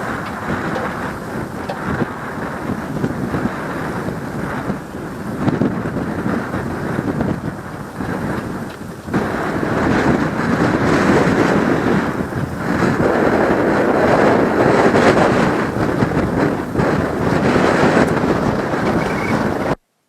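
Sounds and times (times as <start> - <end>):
wind buffeting microphone: 0.0 - 19.8.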